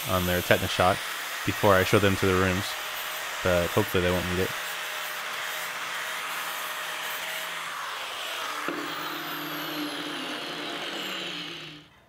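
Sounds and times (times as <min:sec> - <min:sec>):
angle grinder grinding steel: 0:00.0 - 0:11.9.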